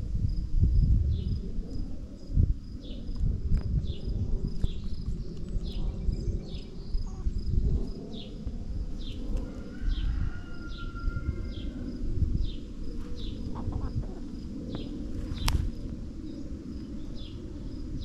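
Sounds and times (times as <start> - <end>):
heavy low rumble: 0.0 - 18.0
insects chirping: 0.3 - 18.0.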